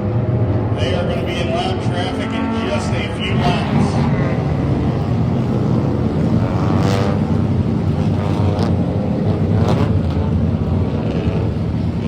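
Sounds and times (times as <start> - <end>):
race car engines droning: 0.0 - 12.0
race car passing: 0.0 - 12.0.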